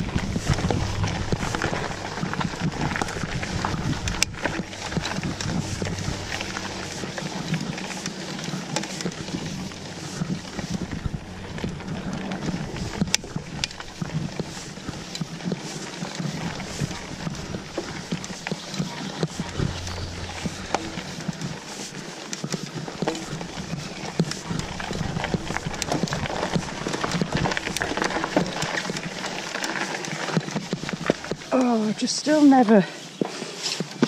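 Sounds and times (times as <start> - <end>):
bike rattling and knocking: 0.0 - 31.5
bike tyres on dirt trail: 0.0 - 34.0.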